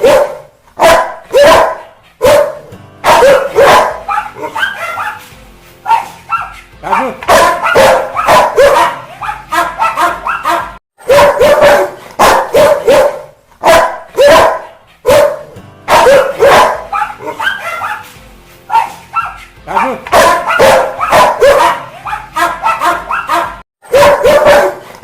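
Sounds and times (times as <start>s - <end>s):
dog barking angrily: 0.0s - 5.2s, 5.9s - 18.1s, 18.7s - 24.9s.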